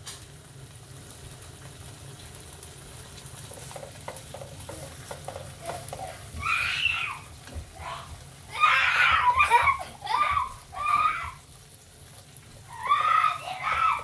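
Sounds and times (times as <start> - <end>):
ham sizzling in a frying pan: 0.0 - 14.0.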